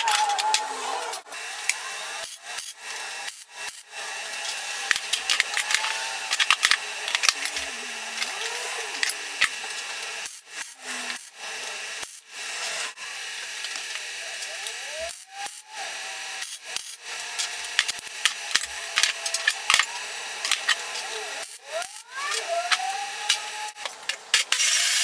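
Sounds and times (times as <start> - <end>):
welder crackling hiss: 1.4 - 25.0.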